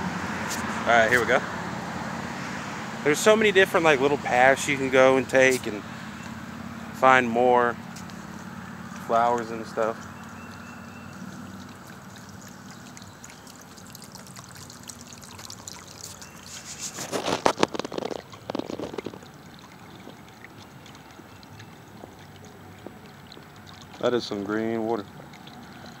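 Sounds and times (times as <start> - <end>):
fountain water trickling: 0.0 - 26.0.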